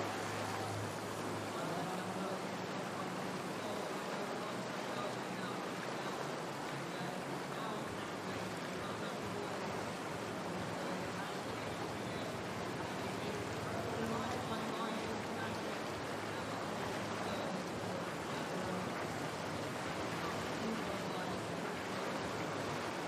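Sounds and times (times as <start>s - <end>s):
white water rushing through rapids: 0.0s - 23.0s.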